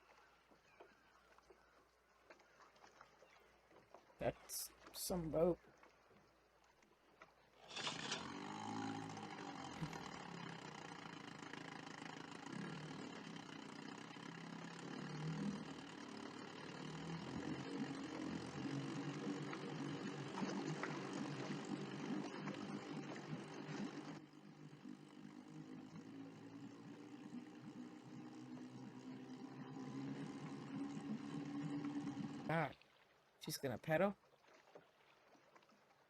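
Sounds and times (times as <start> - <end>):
outboard motor running: 0.0 - 33.4.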